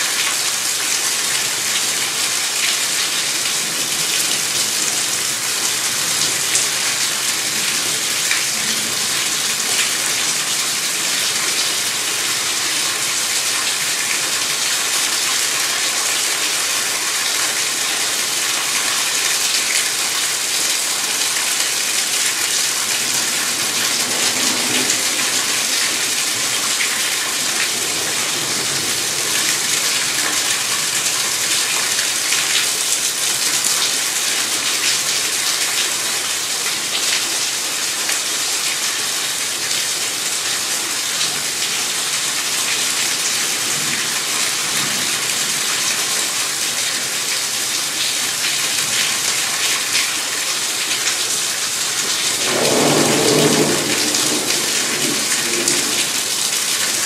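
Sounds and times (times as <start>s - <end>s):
rain falling: 0.0s - 57.0s
water pouring from gutter: 0.0s - 57.0s.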